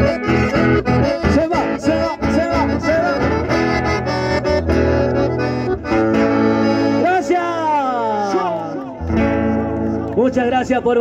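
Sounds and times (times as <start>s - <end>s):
accordions and guitars playing folk: 0.0s - 11.0s.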